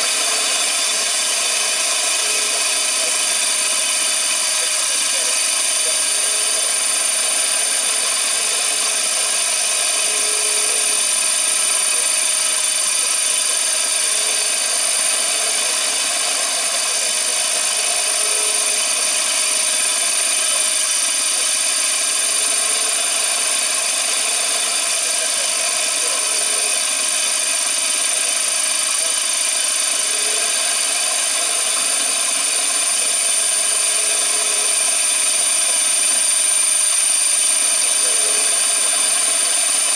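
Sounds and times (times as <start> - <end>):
cnc machine motor running: 0.0 - 39.9
constant high-pitched tone: 0.0 - 39.9.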